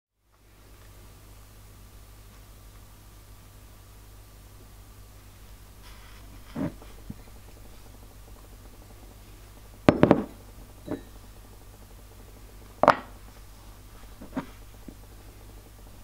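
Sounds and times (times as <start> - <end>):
faint low hum: 0.2 - 16.0.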